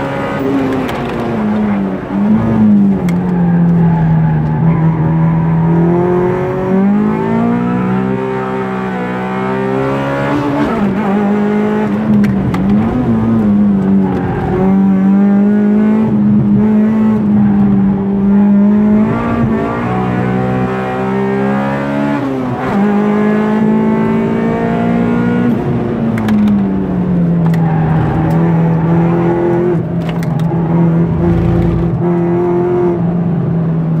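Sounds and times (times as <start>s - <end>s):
car engine at speed: 0.0s - 34.0s.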